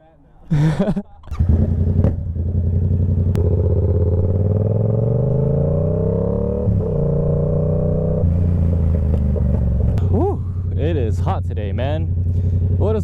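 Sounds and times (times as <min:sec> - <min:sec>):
motorcycle engine pulling away: 0:01.3 - 0:13.0.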